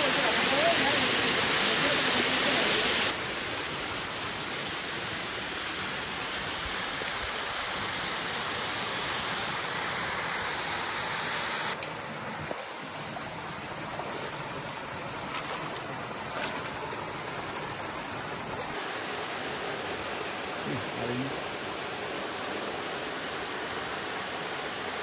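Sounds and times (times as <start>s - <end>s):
waterfalls pouring into stream pool: 0.0s - 11.9s, 12.6s - 25.0s.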